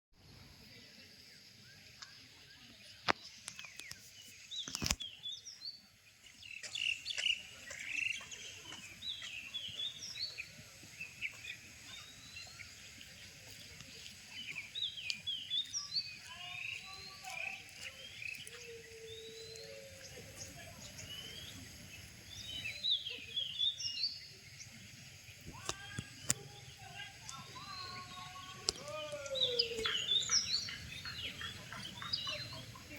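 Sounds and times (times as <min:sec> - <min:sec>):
birds chirping: 0:00.2 - 0:32.9.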